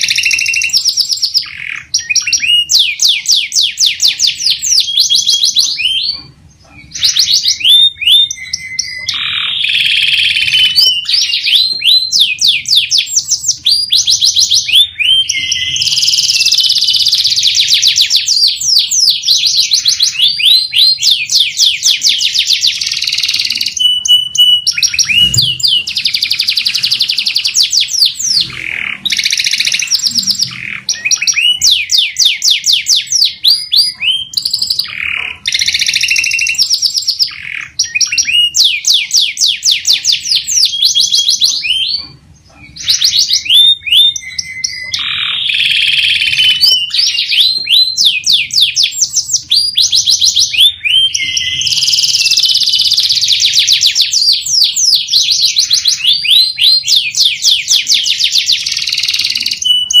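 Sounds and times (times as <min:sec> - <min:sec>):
canary singing trills: 0:00.0 - 1:00.0.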